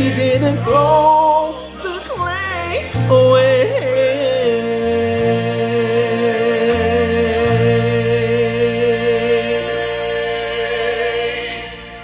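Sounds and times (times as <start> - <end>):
instrumental accompaniment: 0.0 - 12.0.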